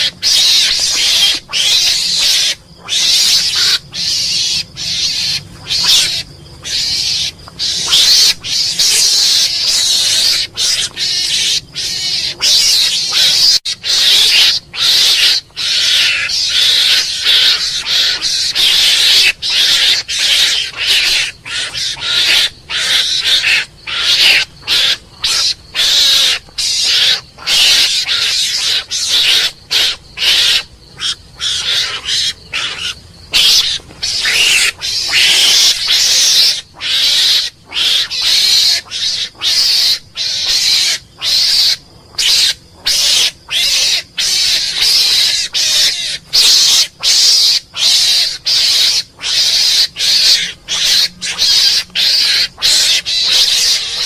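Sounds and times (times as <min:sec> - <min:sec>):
mongoose high-pitched hissy calls: 0:00.0 - 0:54.0.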